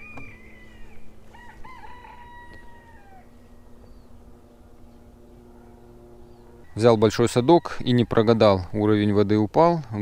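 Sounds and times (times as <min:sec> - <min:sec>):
drawn-out animal call: 0:00.0 - 0:08.7
faint steady hum: 0:00.0 - 0:10.0.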